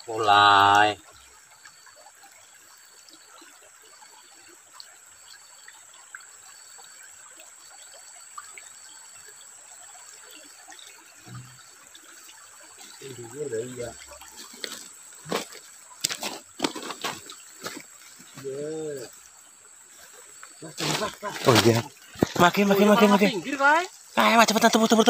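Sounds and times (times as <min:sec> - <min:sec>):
stream trickling over gravel: 0:00.0 - 0:25.0.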